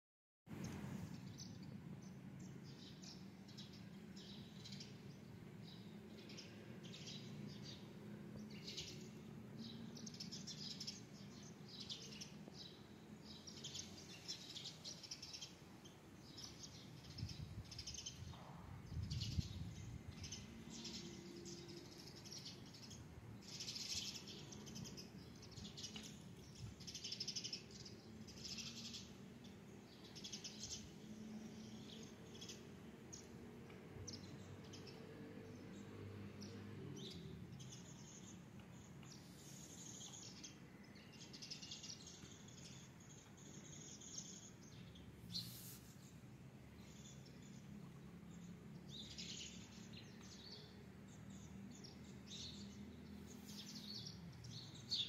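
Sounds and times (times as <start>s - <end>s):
small birds chirping: 0.6s - 55.0s.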